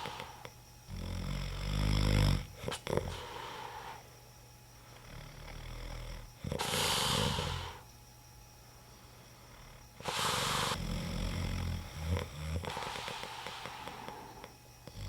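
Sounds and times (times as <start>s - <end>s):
man snoring: 0.0s - 4.0s, 5.0s - 7.8s, 9.5s - 15.0s.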